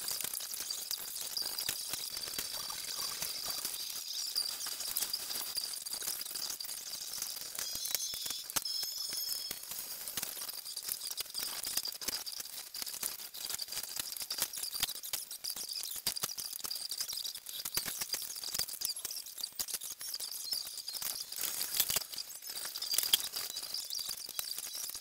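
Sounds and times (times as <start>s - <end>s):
fast patter of clicks: 0.0s - 25.0s.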